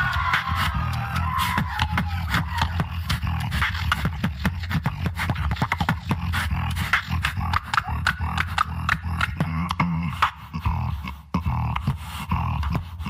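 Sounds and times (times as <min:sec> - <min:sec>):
beatboxing bass drone: 0:00.0 - 0:13.0
beatboxing percussive hits: 0:00.0 - 0:13.0.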